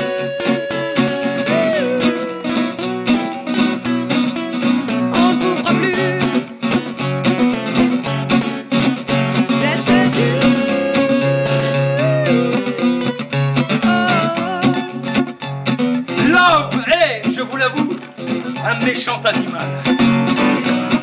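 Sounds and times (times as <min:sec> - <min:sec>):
guitar-driven band music: 0:00.0 - 0:21.0.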